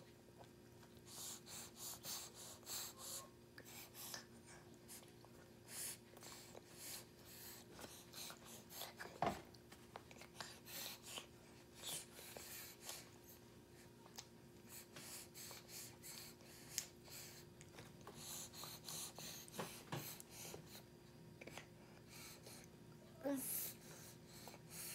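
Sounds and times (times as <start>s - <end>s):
baby chewing and breathing: 0.0s - 24.9s.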